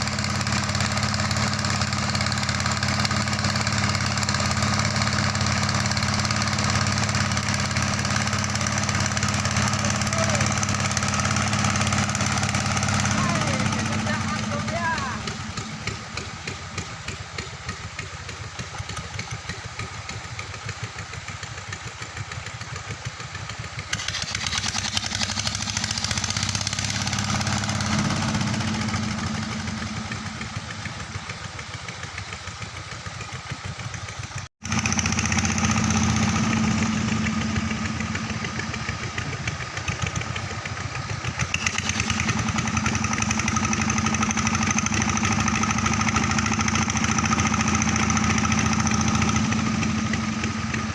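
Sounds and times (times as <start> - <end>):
pump engine running: 0.0 - 50.9.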